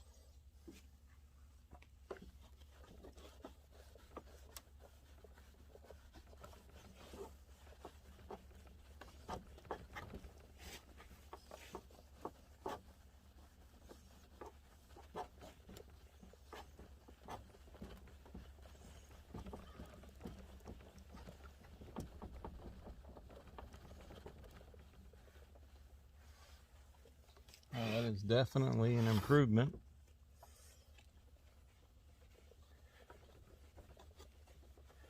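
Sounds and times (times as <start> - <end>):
cloth wiping plastic lens: 0.0 - 35.0.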